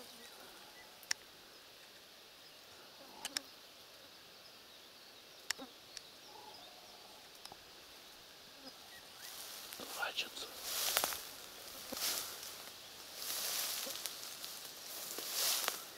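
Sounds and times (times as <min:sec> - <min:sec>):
faint birdsong: 0:00.0 - 0:15.9.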